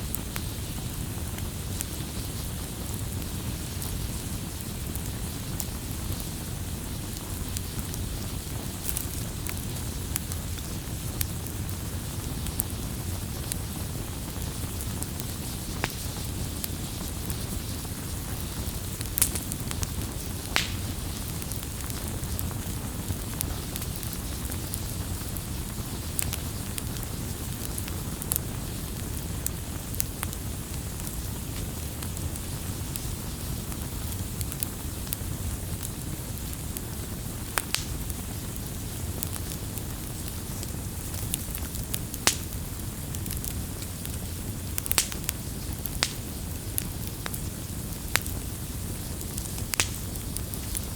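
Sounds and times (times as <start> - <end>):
campfire burning: 0.0 - 50.9
fire pops and snaps: 0.0 - 50.9.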